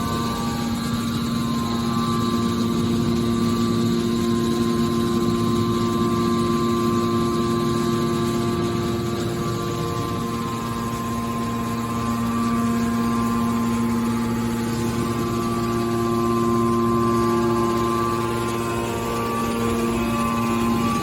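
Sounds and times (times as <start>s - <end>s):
hydraulic machine hum with whine: 0.0s - 21.0s.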